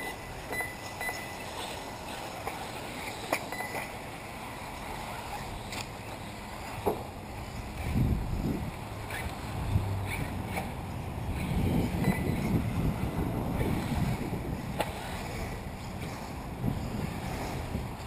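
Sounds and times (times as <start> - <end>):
rc car motors and tyres: 0.0 - 18.0.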